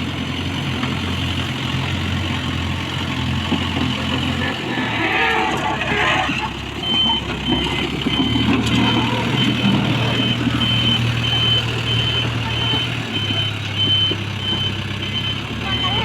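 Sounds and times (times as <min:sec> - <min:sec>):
diesel engine running: 0:00.0 - 0:16.0
reversing alarm beeping: 0:01.9 - 0:16.0.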